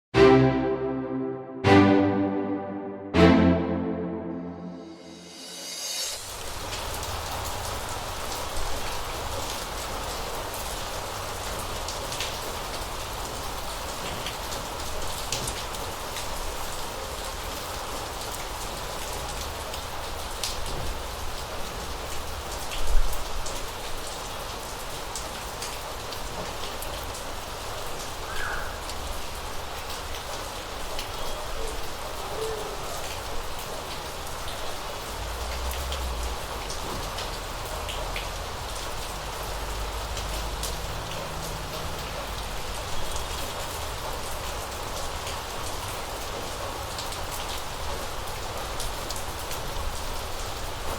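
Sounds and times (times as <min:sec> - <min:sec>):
rain hiss: 0:05.3 - 0:50.9
raindrops ticking on surfaces: 0:06.4 - 0:50.9.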